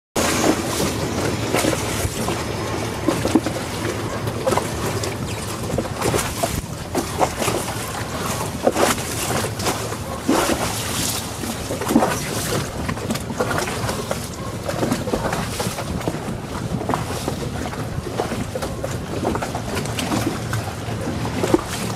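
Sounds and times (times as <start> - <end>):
ferry engine hum: 0.2 - 21.9
water splashing against hull: 0.2 - 21.9.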